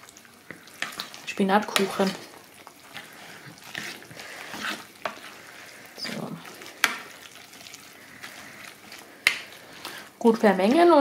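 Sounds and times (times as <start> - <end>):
utensil squelching in wet filling: 0.0 - 11.0.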